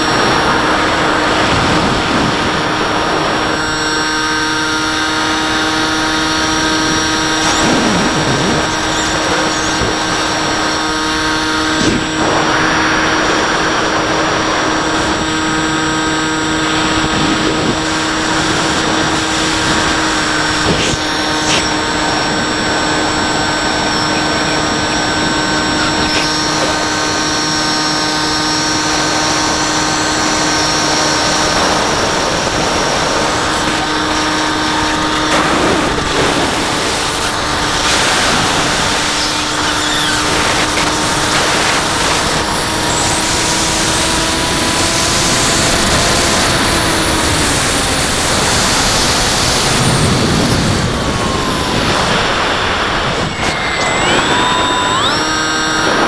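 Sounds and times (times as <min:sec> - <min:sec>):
electric motor whine: 0:00.0 - 0:56.0.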